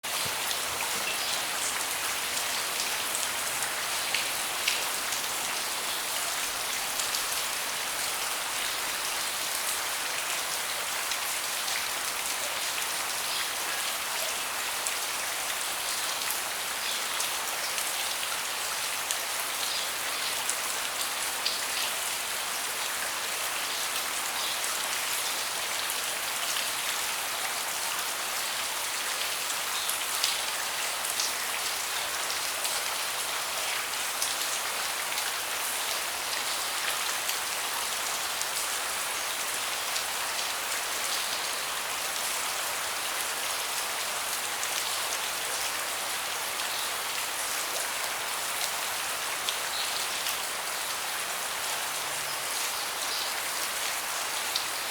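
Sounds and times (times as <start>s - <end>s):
rain on wooden deck: 0.0s - 54.9s.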